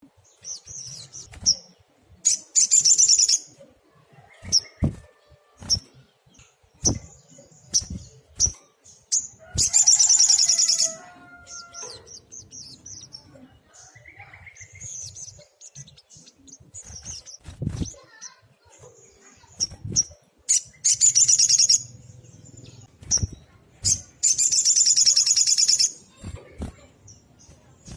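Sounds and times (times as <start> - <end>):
bird chirping and trilling: 0.2 - 27.9.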